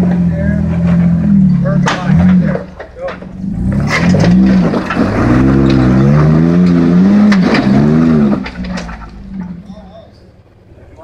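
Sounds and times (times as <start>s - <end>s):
engine revving under load: 0.0s - 9.7s.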